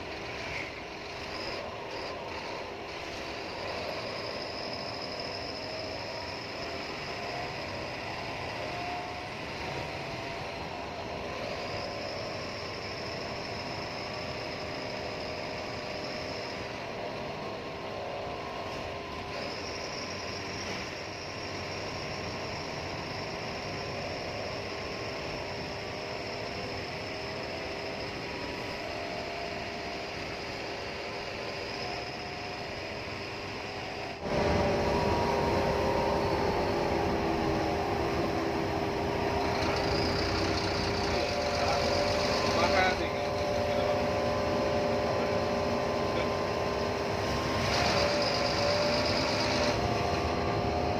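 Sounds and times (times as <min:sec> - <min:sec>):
bus engine and road noise: 0:00.0 - 0:50.9
faint wavering whining tones: 0:00.0 - 0:50.9.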